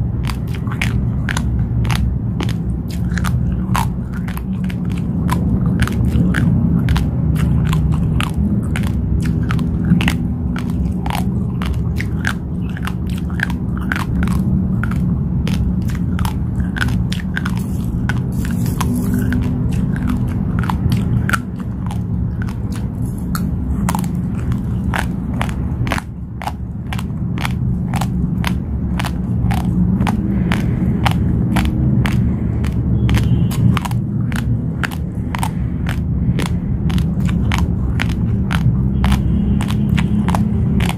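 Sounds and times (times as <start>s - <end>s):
crunchy chewing: 0.0s - 40.9s
steady low hum: 0.0s - 40.9s.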